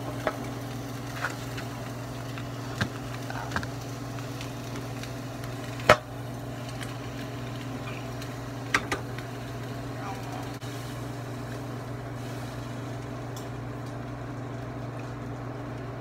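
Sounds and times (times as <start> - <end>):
chicken sizzling in a pan: 0.0 - 16.0
steady low hum: 0.0 - 16.0.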